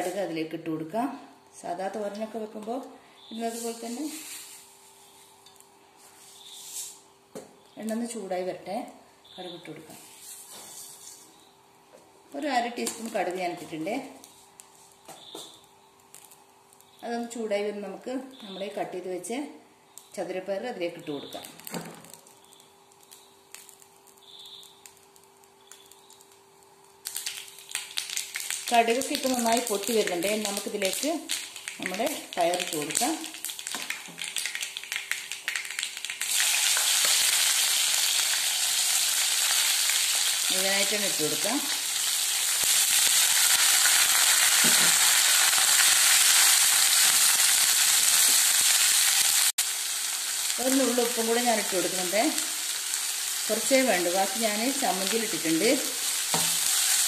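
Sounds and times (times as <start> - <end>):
seeds crackling in hot oil: 0.0 - 57.0.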